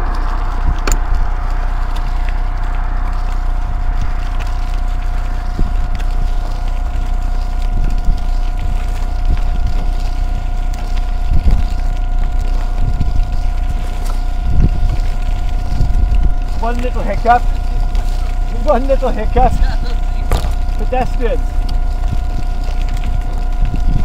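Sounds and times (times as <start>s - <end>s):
electric motor whine: 0.0s - 24.0s
wind rumble on microphone: 0.0s - 24.0s.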